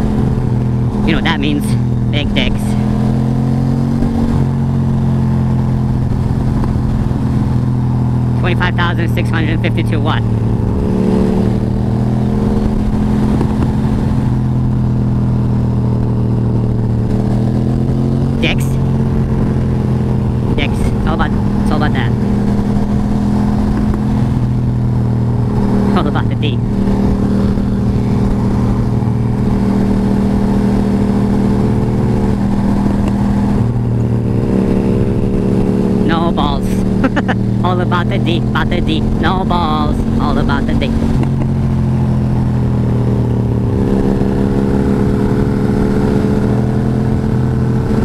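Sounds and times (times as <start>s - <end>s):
motorcycle engine running steadily: 0.0s - 48.0s.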